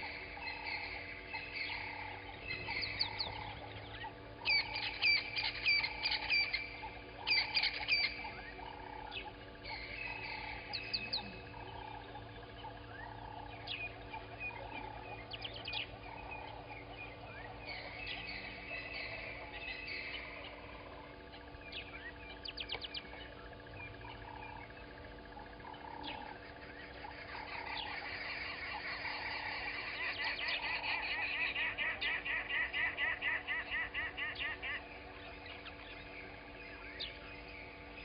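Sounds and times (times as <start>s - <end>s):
birds trilling and chirping: 0.0s - 38.0s.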